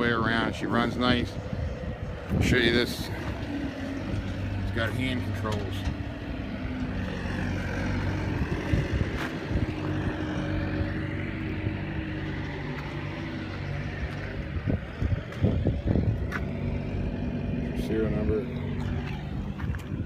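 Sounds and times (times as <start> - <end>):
skid steer diesel engine running: 0.0 - 20.0.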